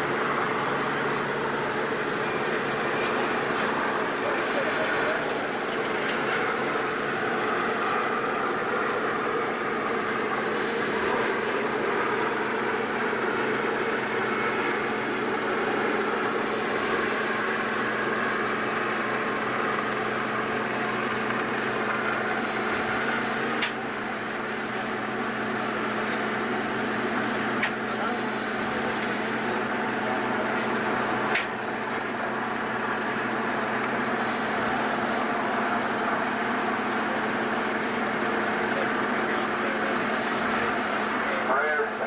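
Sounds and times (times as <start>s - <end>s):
machine running with low hum: 0.0s - 42.0s.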